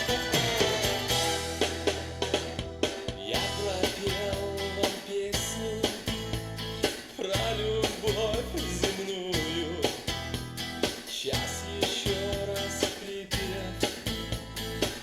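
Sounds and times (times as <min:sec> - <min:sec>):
guitar-led song over loudspeakers: 0:00.0 - 0:15.0.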